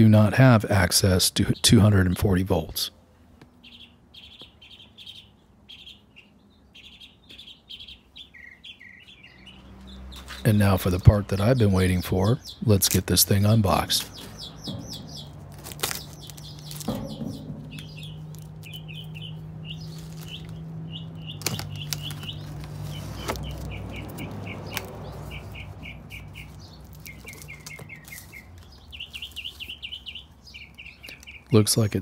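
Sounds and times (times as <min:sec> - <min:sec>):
small birds chirping: 0:00.6 - 0:32.0.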